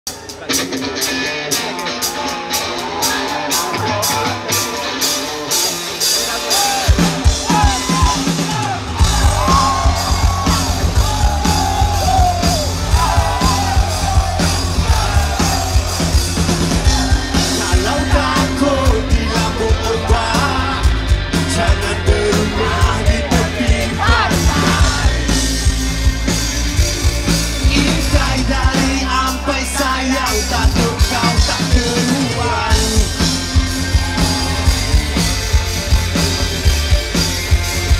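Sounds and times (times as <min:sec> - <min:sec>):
live rock band playing: 0:00.0 - 0:37.9
crowd yelling: 0:00.1 - 0:37.9
heavy bass and kick drum: 0:06.8 - 0:37.9.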